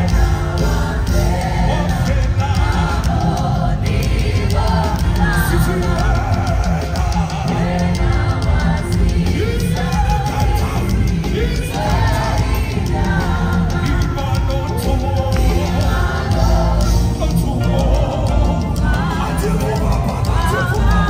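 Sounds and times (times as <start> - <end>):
gospel singers: 0.0 - 21.0
live band with heavy bass: 0.0 - 21.0.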